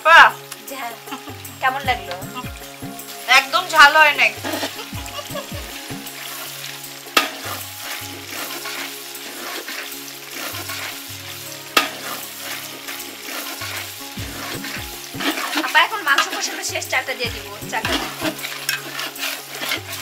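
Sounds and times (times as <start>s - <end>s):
curry sizzling in a pot: 0.0s - 20.0s.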